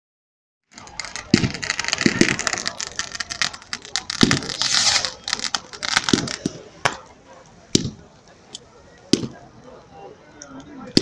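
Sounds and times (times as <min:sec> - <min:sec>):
fireworks bangs: 0:00.7 - 0:09.8
fireworks crackling: 0:00.7 - 0:09.8, 0:10.4 - 0:11.0.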